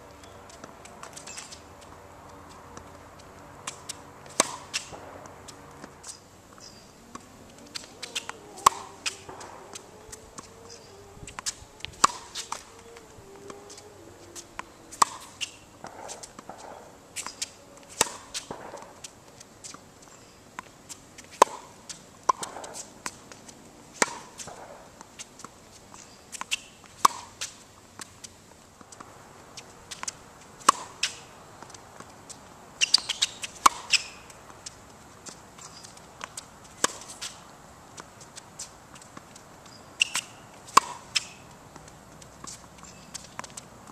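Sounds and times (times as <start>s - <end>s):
racket hitting tennis ball: 3.6s - 43.9s.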